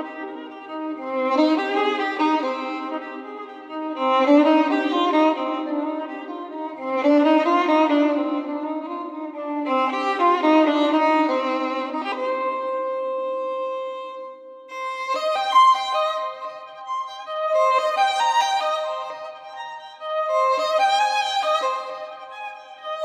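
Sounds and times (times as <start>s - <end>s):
solo violin melody: 0.0s - 23.0s.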